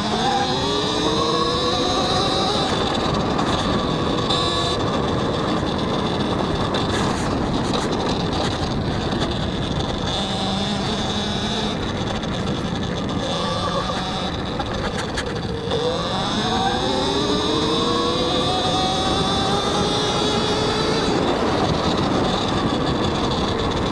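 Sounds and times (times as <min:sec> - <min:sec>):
electric motor whine: 0:00.0 - 0:23.9
wind and tyre noise: 0:00.0 - 0:23.9.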